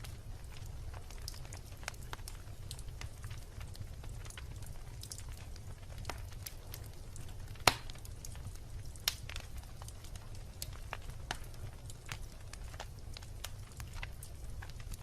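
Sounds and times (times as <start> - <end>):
loud snap of fire: 0.0 - 15.0
wood bonfire crackling: 0.0 - 15.0.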